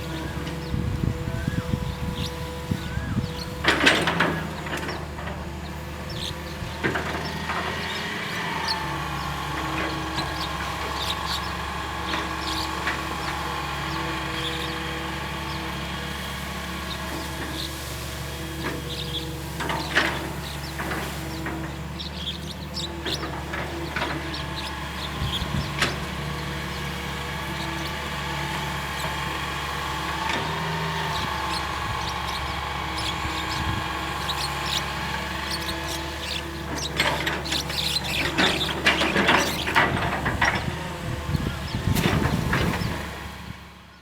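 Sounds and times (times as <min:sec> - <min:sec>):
excavator running: 0:00.0 - 0:44.0
machine squeaks clicks and knocks: 0:03.1 - 0:43.1.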